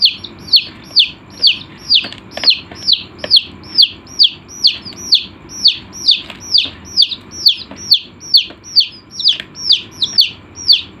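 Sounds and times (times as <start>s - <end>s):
chick peeping: 0.0s - 11.0s.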